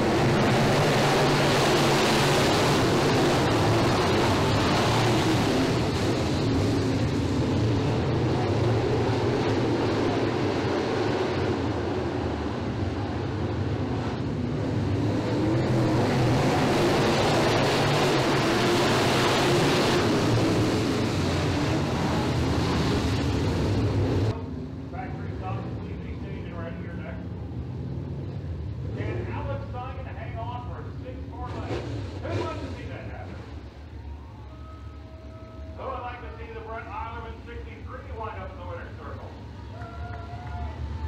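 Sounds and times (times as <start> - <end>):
race car engines: 0.0 - 41.0.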